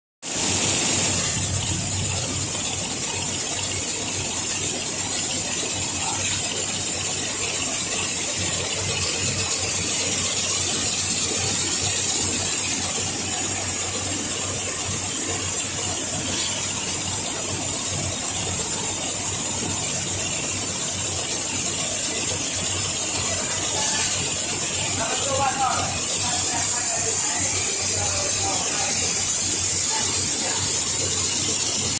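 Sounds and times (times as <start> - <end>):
high-pitched machine hiss: 0.2 - 31.9
loom mechanical chatter: 0.2 - 31.9.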